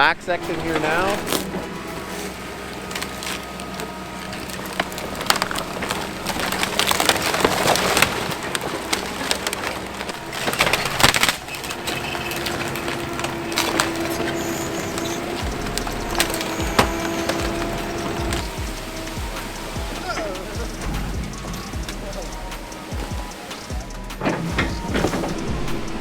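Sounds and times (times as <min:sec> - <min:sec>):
excavator engine: 0:00.0 - 0:26.0
timber cracking and splintering: 0:00.4 - 0:26.0.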